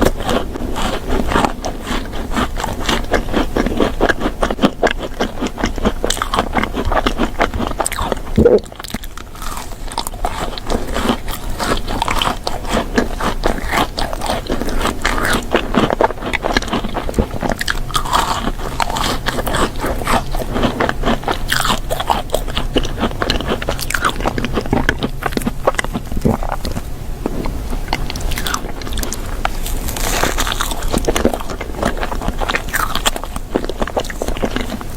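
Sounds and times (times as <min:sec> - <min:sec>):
crunchy chewing: 0:00.0 - 0:34.9.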